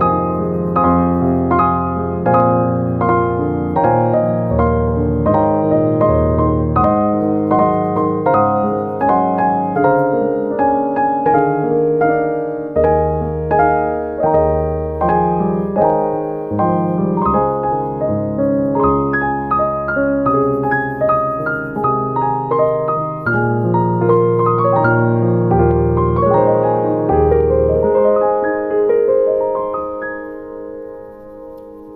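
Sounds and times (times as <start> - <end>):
calm piano music: 0.0 - 31.9.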